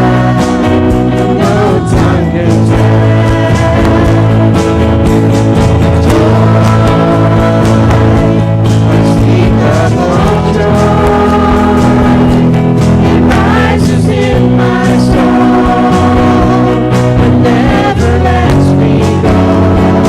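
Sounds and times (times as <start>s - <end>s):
deep sustained bass notes: 0.0s - 20.0s
guitar: 0.0s - 20.0s
voices singing: 0.0s - 20.0s.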